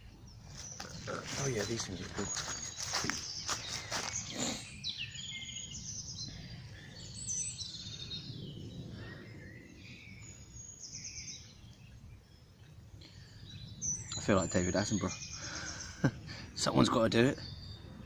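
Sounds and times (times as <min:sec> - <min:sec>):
songbirds chirping and trilling: 0:00.0 - 0:18.0.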